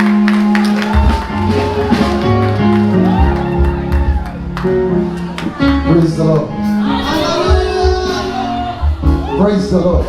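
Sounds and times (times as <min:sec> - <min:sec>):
live band music: 0:00.0 - 0:10.0.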